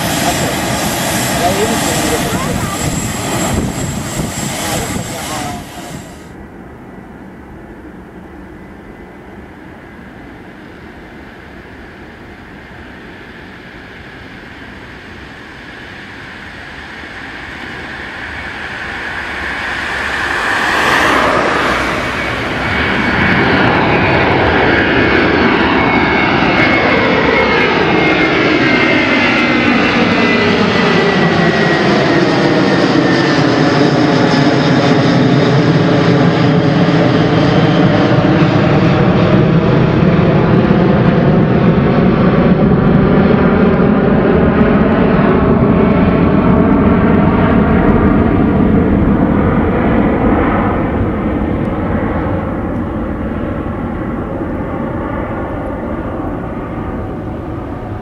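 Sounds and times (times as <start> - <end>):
jet engines at high power: 0.0 - 58.0.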